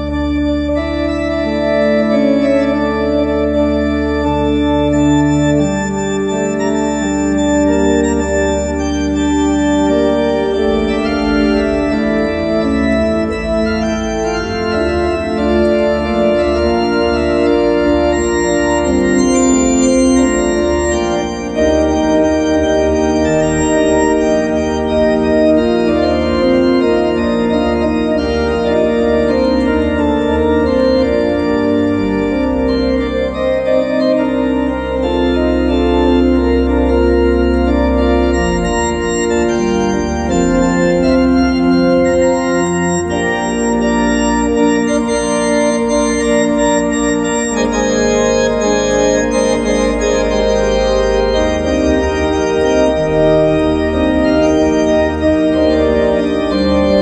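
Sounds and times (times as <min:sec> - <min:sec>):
organ playing chords: 0:00.0 - 0:57.0.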